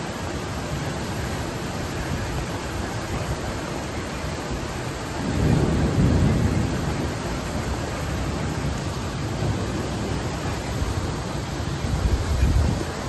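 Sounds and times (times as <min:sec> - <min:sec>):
wind and rain rushing: 0:00.0 - 0:13.0
thunder rumbling: 0:00.1 - 0:13.0.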